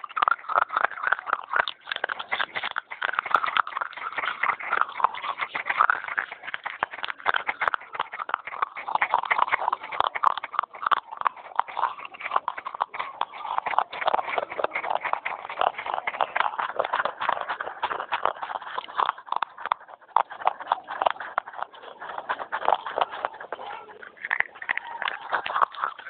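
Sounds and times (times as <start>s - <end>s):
clay pot pieces crunching: 0.0s - 26.0s.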